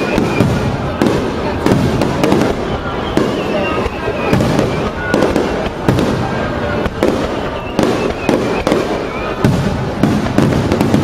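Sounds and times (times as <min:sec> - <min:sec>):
firework crackle and rumble: 0:00.0 - 0:11.0.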